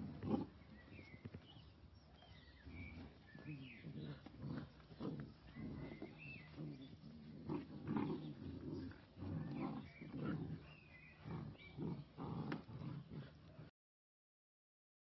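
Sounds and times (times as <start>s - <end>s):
dogs play-growling: 0.0s - 1.5s, 2.2s - 13.7s.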